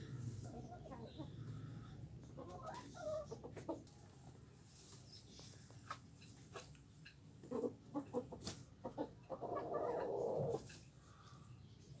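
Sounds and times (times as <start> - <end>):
chickens clucking: 0.4 - 10.9.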